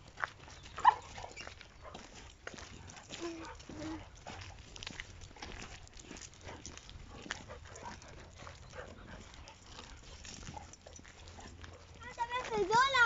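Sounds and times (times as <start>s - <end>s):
paws scraping on gravel: 0.0s - 13.0s
dogs sniffing: 0.5s - 13.0s.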